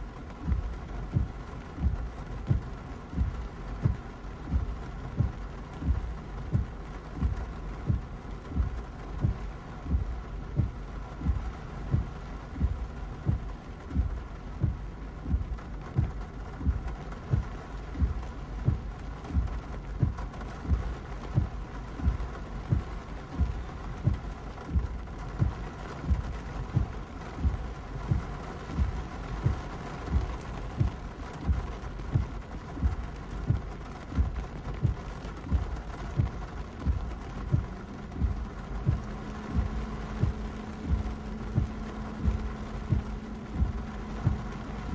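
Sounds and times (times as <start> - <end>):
heavy rain on car: 0.0 - 44.9
steady hum: 0.0 - 44.9
windshield wipers thumping: 0.0 - 44.9.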